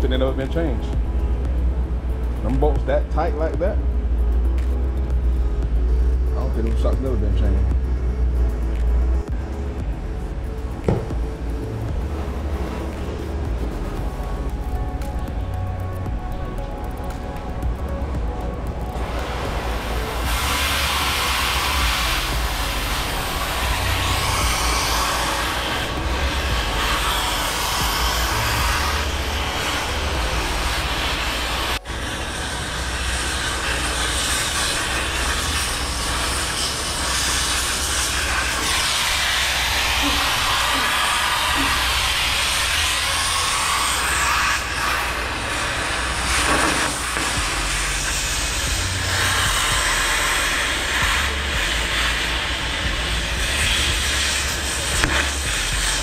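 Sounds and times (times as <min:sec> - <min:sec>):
cutting torch hissing: 0:00.0 - 0:56.0
low rumble: 0:00.0 - 0:56.0.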